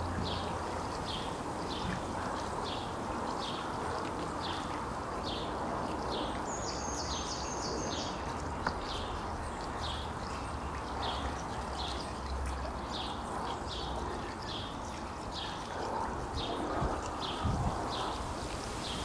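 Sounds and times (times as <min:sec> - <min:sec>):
wind rustling leaves: 0:00.0 - 0:19.0.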